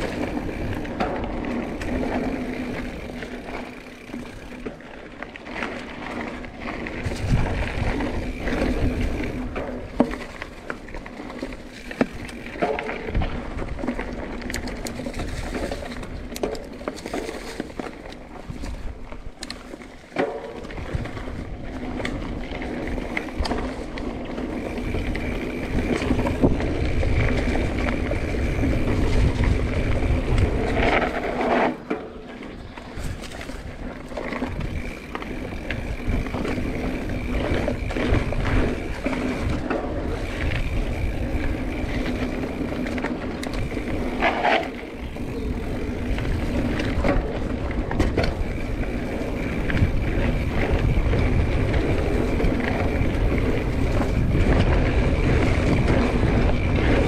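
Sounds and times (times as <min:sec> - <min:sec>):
bike knocking on bumps: 0:00.0 - 0:57.0
bike tyre noise on dirt: 0:00.0 - 0:57.0
wind rumbling on microphone: 0:00.0 - 0:57.0.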